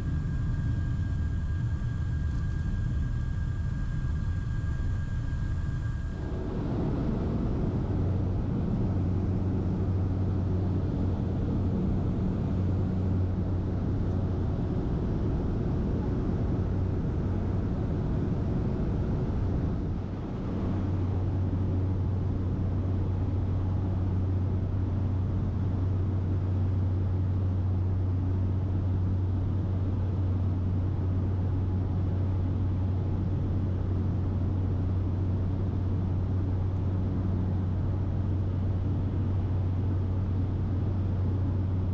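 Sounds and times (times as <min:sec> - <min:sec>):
propeller plane cabin drone: 0:00.0 - 0:41.9.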